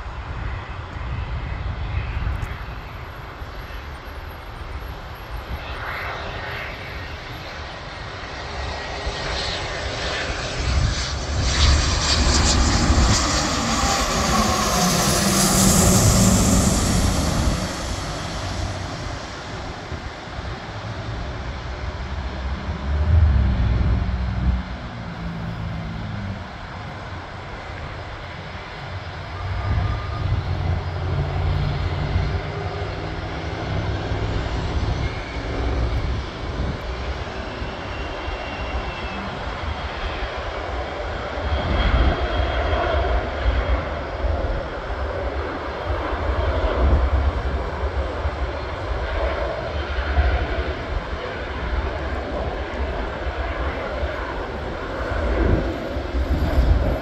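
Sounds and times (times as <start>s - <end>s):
jet engine rumble with whine: 0.0s - 57.0s.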